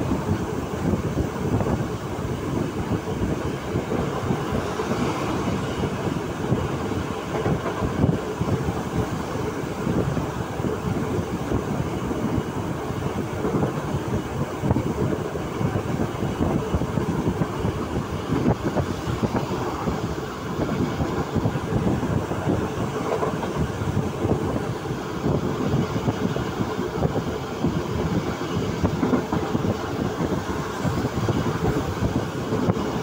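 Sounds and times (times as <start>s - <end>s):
train rattling and clattering: 0.0s - 33.0s
train wheels rumbling on rails: 0.0s - 33.0s.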